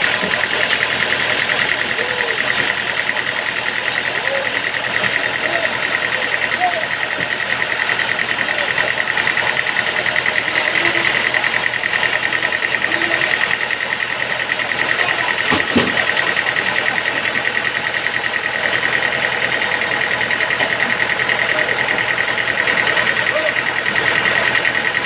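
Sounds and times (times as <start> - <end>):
sawmill machinery droning: 0.0 - 25.0.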